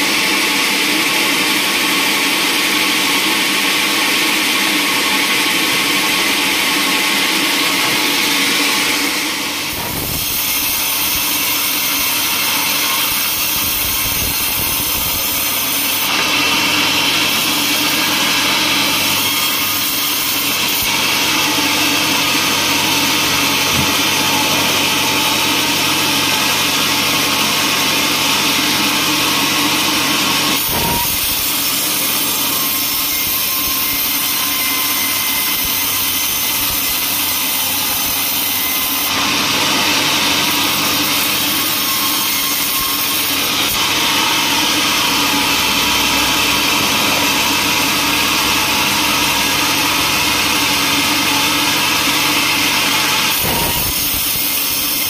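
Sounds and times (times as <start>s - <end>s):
band saw blade cutting log: 0.0s - 55.0s.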